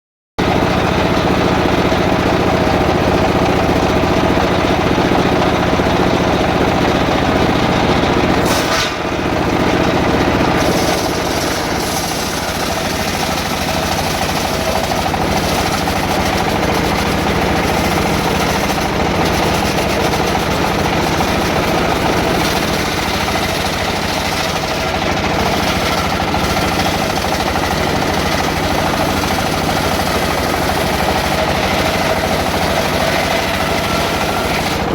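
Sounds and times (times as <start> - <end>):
two-stroke saw cutting wood: 0.4 - 34.9.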